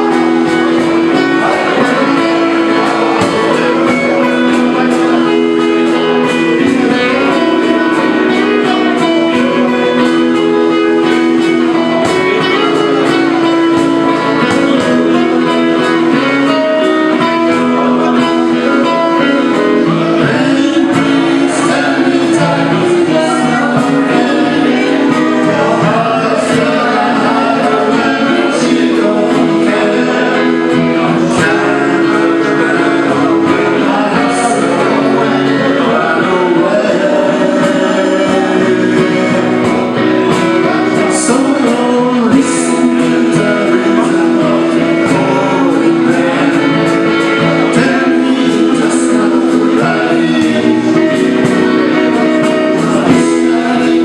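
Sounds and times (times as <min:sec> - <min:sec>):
guitar accompaniment: 0:00.0 - 0:54.0
person singing: 0:00.0 - 0:54.0.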